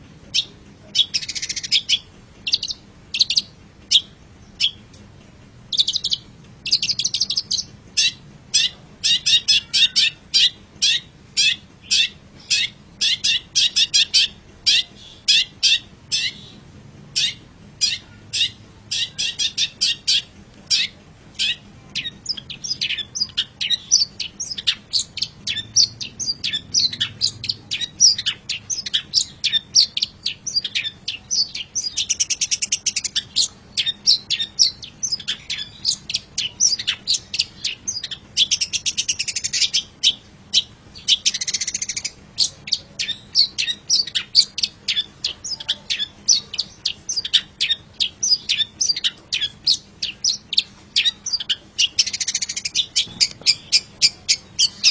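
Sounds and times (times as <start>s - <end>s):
bird chirping rapidly: 0.3s - 4.9s, 5.6s - 54.9s.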